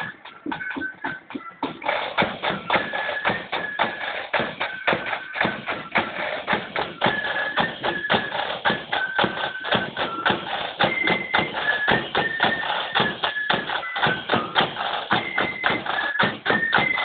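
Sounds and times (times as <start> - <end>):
bass drum beats: 0.0 - 17.0
high flute melody: 0.0 - 17.0
rapid side-drum strokes: 0.0 - 17.0.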